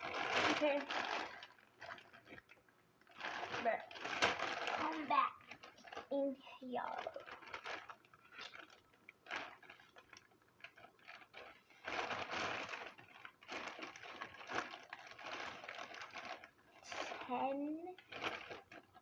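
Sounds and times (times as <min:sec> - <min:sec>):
plastic rustling and clattering: 0:00.0 - 0:19.0.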